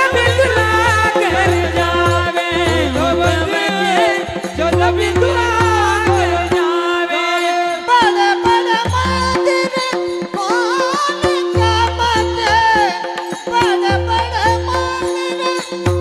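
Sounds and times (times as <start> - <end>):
devotional singing: 0.0 - 16.0.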